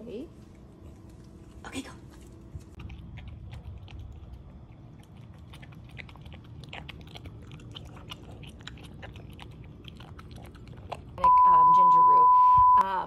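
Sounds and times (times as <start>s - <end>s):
dog crunching kibble: 0.5s - 11.2s.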